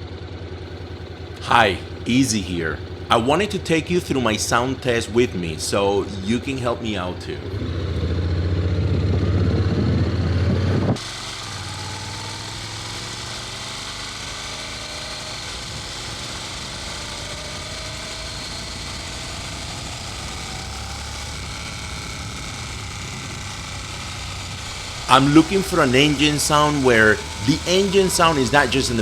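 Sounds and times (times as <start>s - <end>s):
motorcycle engine rumbling: 0.6s - 29.0s
steady hiss: 1.2s - 8.0s, 11.0s - 29.0s.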